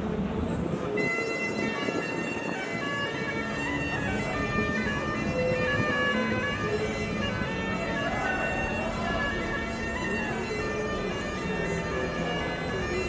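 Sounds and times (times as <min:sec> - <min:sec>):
bagpipes playing a tune: 0:00.9 - 0:13.0.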